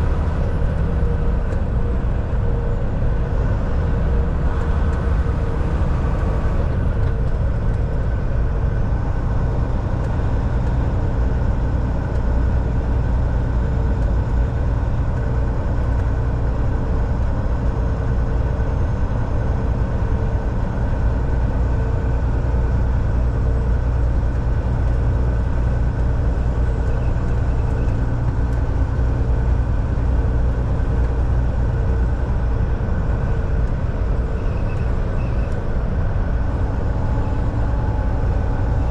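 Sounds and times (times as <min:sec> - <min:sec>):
road and tyre noise: 0:00.0 - 0:38.9
truck engine drone: 0:00.0 - 0:38.9.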